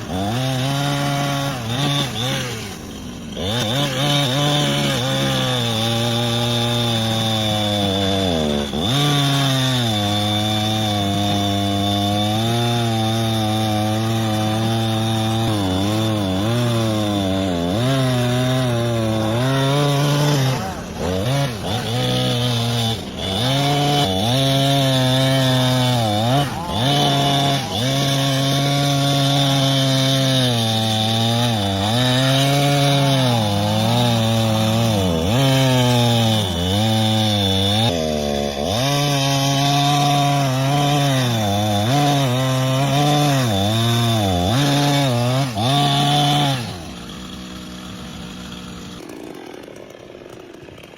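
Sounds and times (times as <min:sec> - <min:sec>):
chainsaw cutting into tree: 0:00.0 - 0:50.9.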